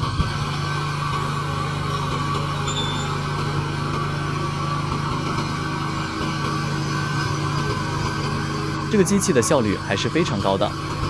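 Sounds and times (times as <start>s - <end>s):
machine engine humming: 0.0s - 11.0s.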